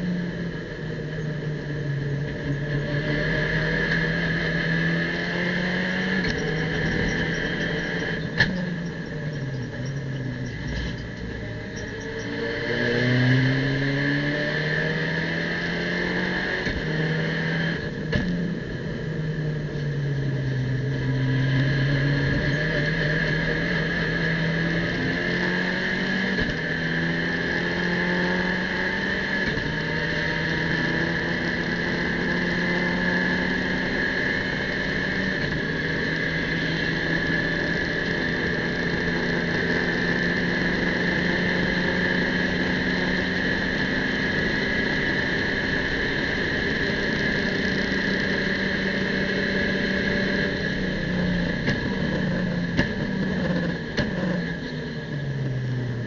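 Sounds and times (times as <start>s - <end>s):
race car engine at full throttle: 0.0s - 56.0s
steady high whine: 0.0s - 56.0s.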